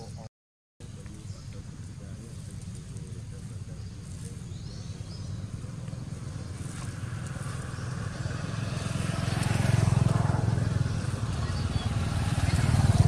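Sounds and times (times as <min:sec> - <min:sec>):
engine pulsing rumble: 0:00.0 - 0:13.0.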